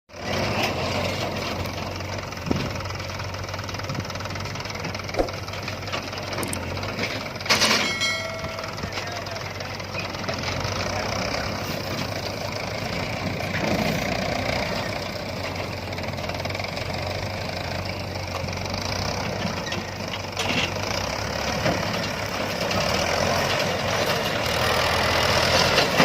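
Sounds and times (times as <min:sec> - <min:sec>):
diesel engine running: 0:00.1 - 0:26.0.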